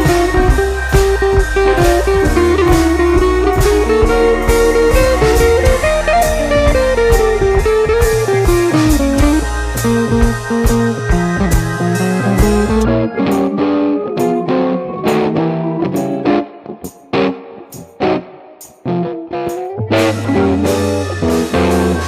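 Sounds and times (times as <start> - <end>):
instrumental music with drums: 0.0 - 17.1, 17.7 - 22.0.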